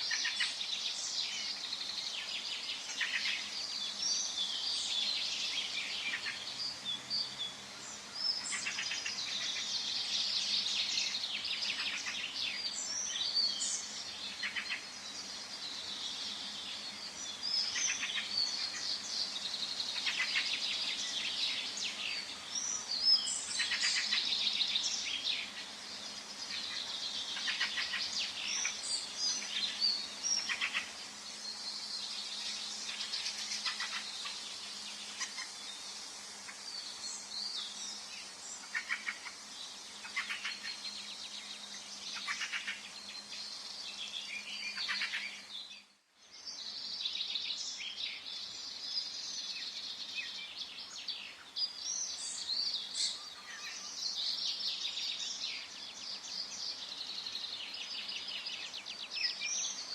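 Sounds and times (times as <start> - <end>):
faint background hiss: 0.0 - 59.9
songbirds chirping and trilling: 0.0 - 59.9.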